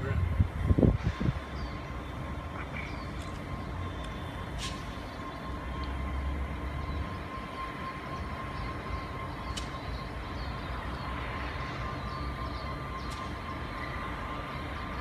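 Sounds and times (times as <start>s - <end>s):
diesel locomotives rumbling: 0.0s - 15.0s.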